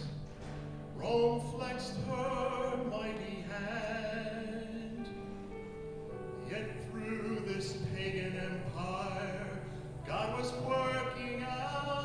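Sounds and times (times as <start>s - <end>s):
musical accompaniment: 0.0s - 12.0s
operatic singing: 0.9s - 5.2s, 6.4s - 12.0s.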